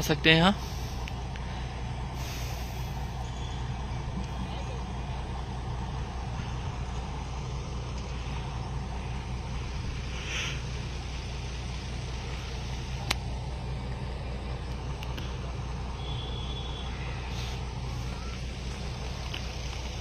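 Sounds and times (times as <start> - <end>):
diesel tractor engine idling: 0.0 - 20.0.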